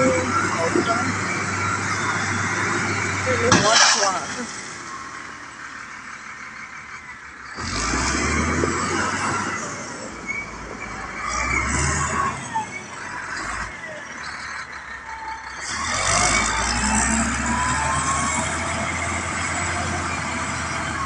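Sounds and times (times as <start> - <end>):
wheel loader diesel engine running: 0.0 - 21.0.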